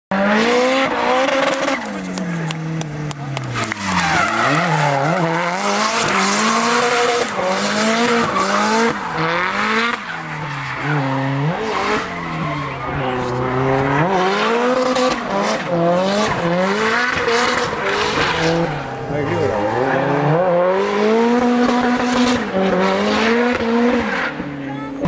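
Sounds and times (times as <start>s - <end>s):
car engine revving hard: 0.1s - 25.0s.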